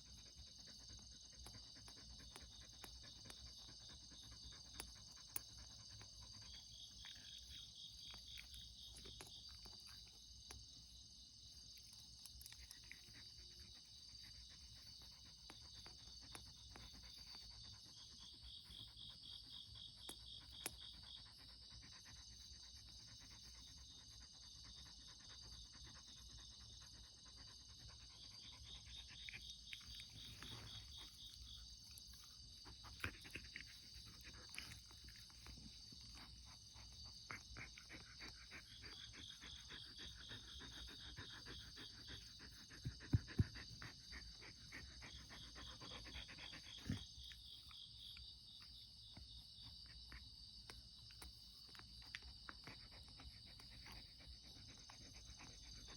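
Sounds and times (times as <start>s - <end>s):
insects chirping: 0.0s - 55.9s.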